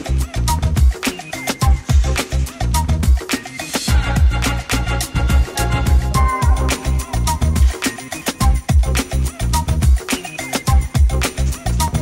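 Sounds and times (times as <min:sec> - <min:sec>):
background music with bass and drums: 0:00.0 - 0:12.0.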